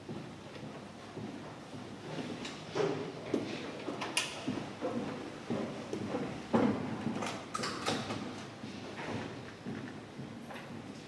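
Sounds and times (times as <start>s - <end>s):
indoor range room sound: 0.0s - 11.0s.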